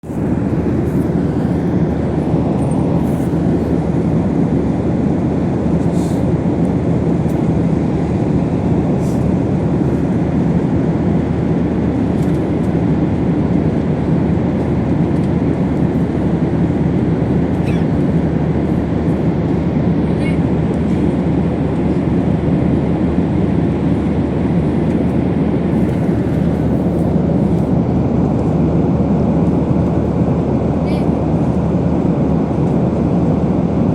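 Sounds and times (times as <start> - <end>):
aircraft cabin rumble: 0.0 - 33.9.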